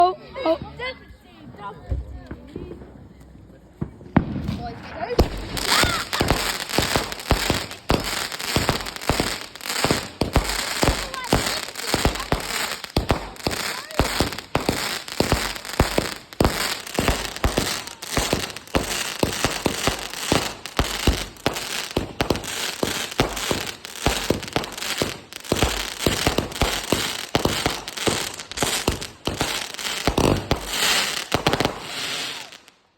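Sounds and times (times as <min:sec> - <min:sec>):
fireworks bangs and crackles: 0:00.5 - 0:32.9.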